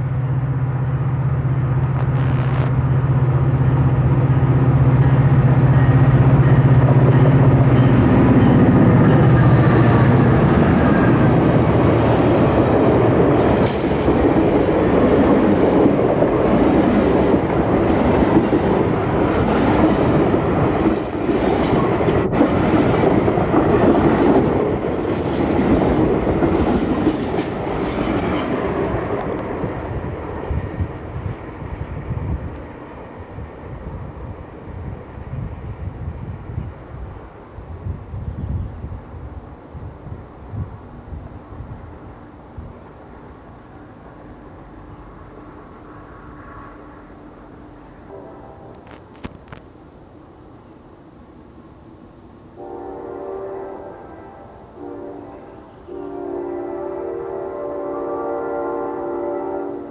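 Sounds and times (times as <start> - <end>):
train wheels rumbling on rails: 0.0 - 50.2
diesel locomotive engine drone: 0.0 - 59.9.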